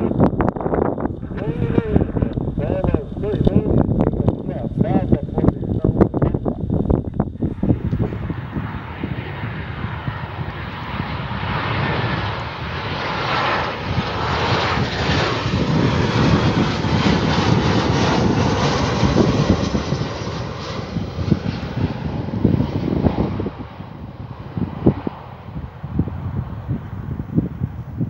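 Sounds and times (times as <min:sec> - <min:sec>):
jet roar passing low: 0:00.0 - 0:28.0.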